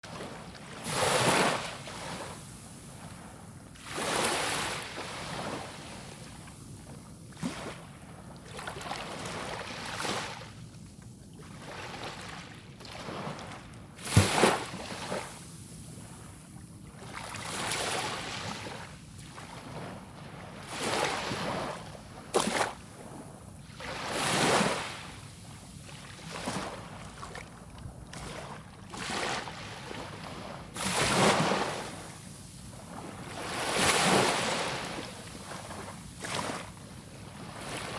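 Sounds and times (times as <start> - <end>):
small waves breaking on beach: 0.1 - 6.6, 8.5 - 10.5, 11.5 - 15.4, 17.0 - 37.9.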